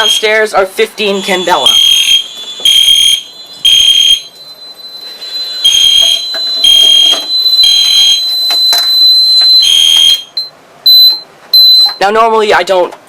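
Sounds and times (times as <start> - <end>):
fire alarm horn blasts: 0.0 - 0.4, 1.0 - 12.0
steady high tone: 0.0 - 12.2.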